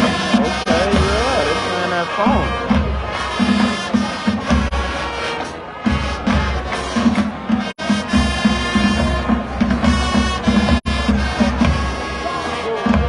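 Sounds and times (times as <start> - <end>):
marching band brass: 0.0 - 13.0
steady drum beat: 0.0 - 13.0.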